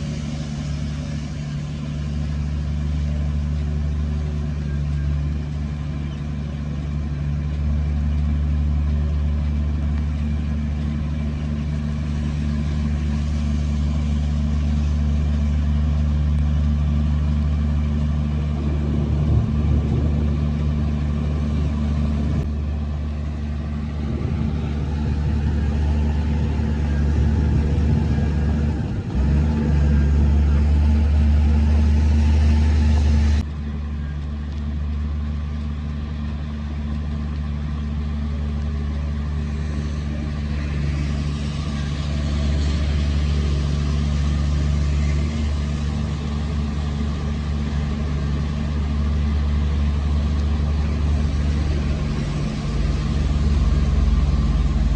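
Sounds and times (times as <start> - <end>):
heavy diesel machinery engine drone: 0.0 - 54.9.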